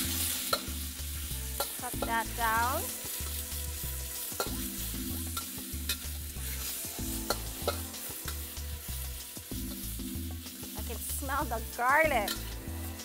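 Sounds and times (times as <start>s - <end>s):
meat sizzling in a wok: 0.0s - 13.0s
metal spatula scraping wok: 0.0s - 13.0s.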